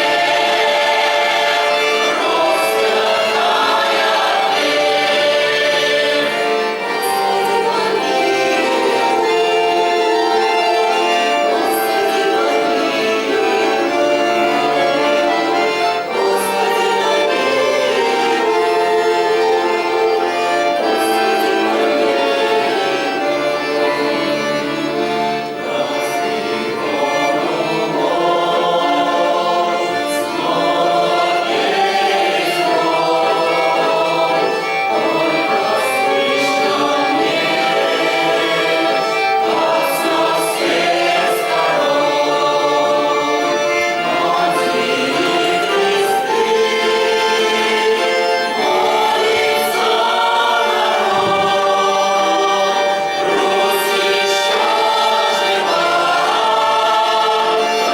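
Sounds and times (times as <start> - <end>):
folk choir singing: 0.0 - 57.9.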